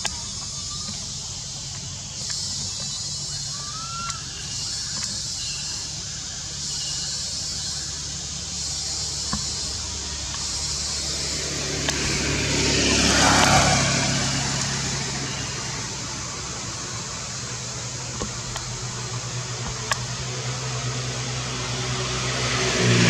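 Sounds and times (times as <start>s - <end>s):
steady high hiss: 0.0s - 23.0s
steady low hum: 0.0s - 23.0s
vehicle passing on road: 0.0s - 23.0s.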